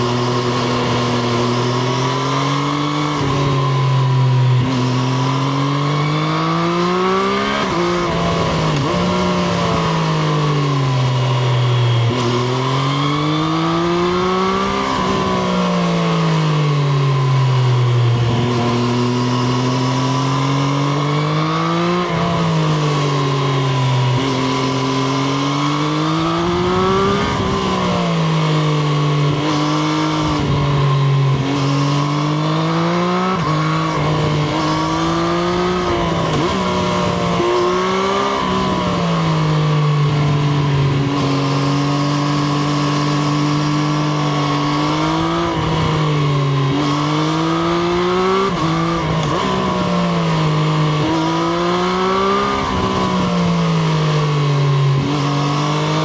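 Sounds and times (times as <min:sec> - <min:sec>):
crackly engine downshifts: 0:00.0 - 0:56.0
motorcycle engine accelerating: 0:00.0 - 0:56.0.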